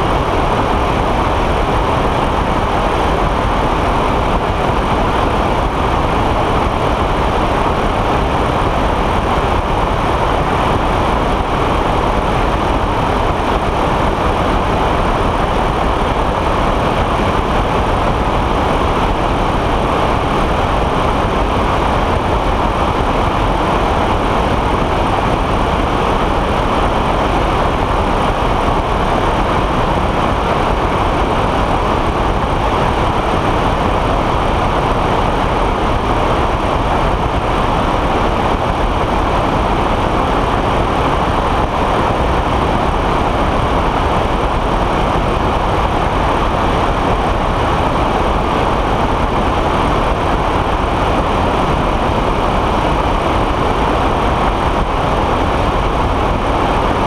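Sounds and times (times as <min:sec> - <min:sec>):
aircraft engine drone: 0:00.0 - 0:57.0
wind rush: 0:00.0 - 0:57.0.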